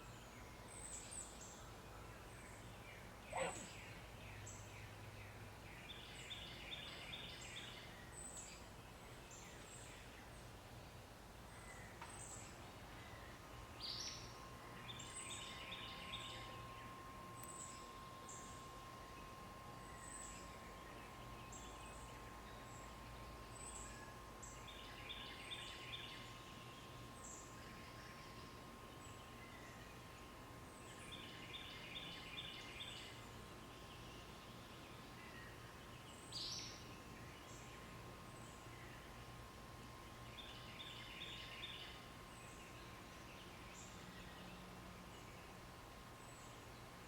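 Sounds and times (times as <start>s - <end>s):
background hiss: 0.0s - 47.0s
faint hum-like tone: 0.0s - 47.0s
high birdsong chirps: 0.0s - 47.0s.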